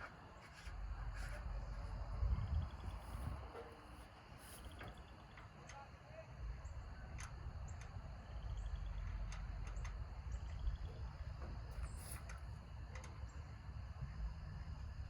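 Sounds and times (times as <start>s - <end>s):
steady low rumble: 0.0s - 5.5s, 6.3s - 15.0s.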